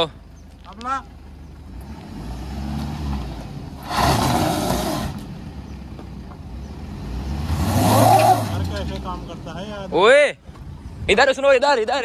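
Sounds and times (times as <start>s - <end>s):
diesel engine droning: 0.0s - 11.1s.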